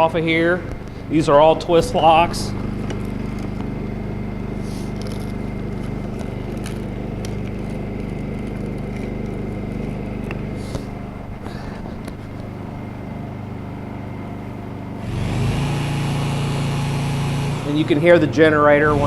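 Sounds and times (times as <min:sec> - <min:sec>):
electric rescue tool running: 0:00.0 - 0:19.0
generator engine idling: 0:00.0 - 0:19.0.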